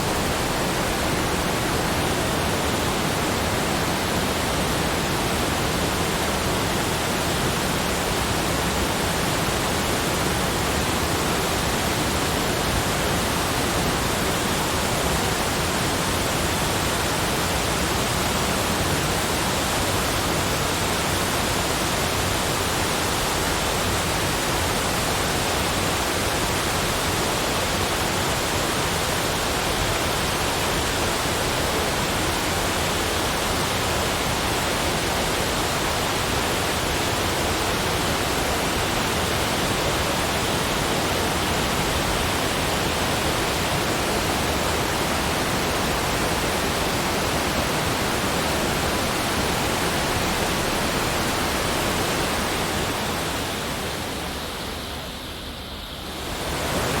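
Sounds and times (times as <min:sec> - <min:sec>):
steady broadband rushing noise: 0:00.0 - 0:57.0.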